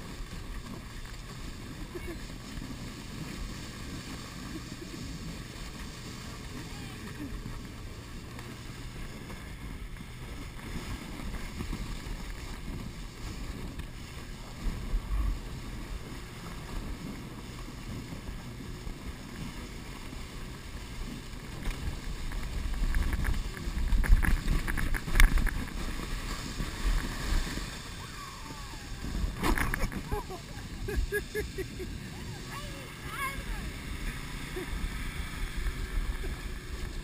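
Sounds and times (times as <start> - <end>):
canoe scraping over snow: 0.0 - 37.0
wind rumbling on microphone: 0.0 - 37.0.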